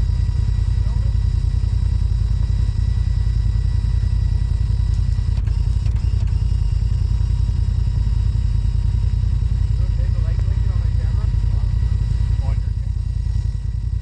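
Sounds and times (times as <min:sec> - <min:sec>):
utility vehicle engine idling: 0:00.0 - 0:14.0.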